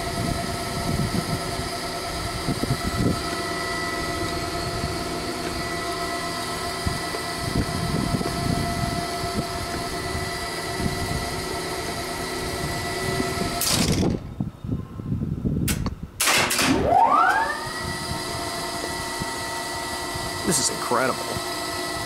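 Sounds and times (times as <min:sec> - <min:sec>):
whine rising in pitch: 0:00.0 - 0:13.6, 0:16.7 - 0:22.0
machine hum with whining tones: 0:00.0 - 0:15.4, 0:16.2 - 0:22.0.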